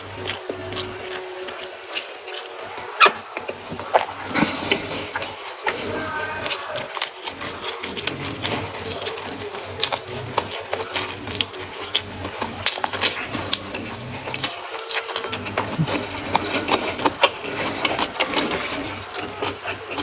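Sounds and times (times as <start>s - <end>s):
crunching raw vegetables: 0.0s - 20.0s.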